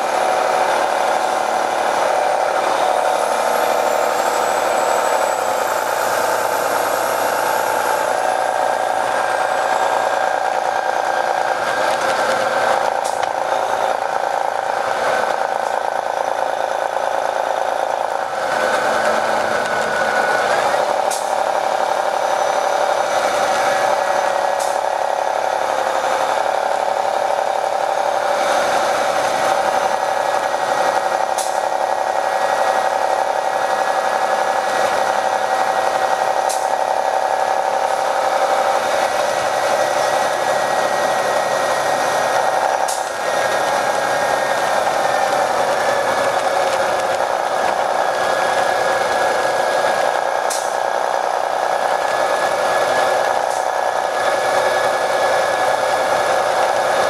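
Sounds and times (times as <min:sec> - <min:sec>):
bus engine whining drone: 0:00.0 - 0:57.0.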